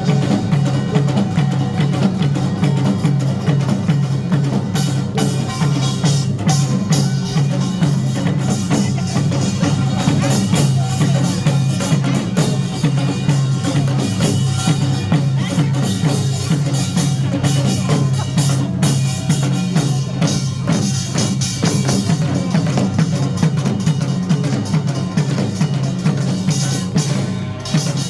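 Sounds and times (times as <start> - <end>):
percussion band clanging gongs and drums: 0.0 - 28.0.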